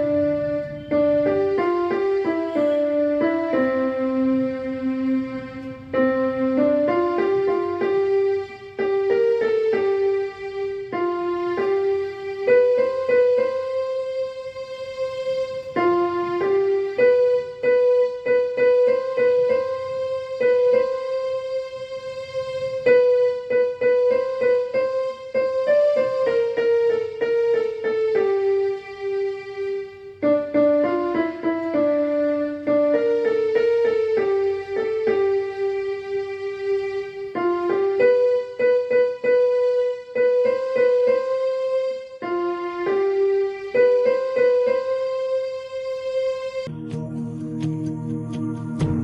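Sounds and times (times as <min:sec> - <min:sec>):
electronic keyboard melody: 0:00.0 - 0:49.0.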